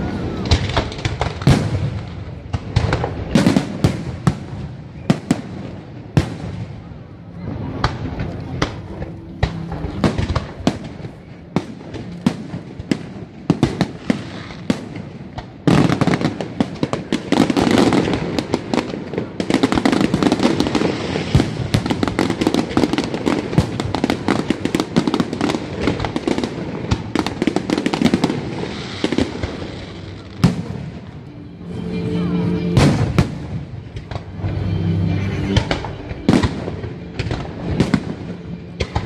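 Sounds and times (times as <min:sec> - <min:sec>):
rapid fireworks bangs and crackling: 0:00.0 - 0:39.0.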